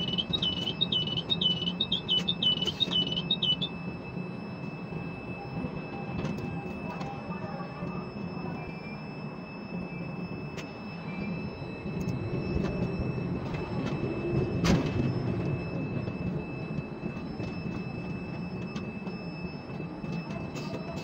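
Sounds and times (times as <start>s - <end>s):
crane mechanical rumble: 0.0s - 21.0s.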